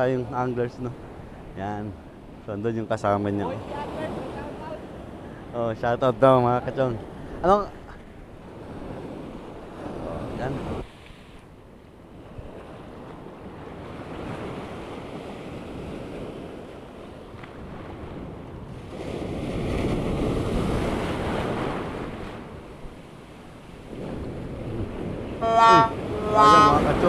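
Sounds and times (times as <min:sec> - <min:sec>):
sea waves breaking: 0:00.0 - 0:27.0
wind on microphone: 0:03.4 - 0:27.0.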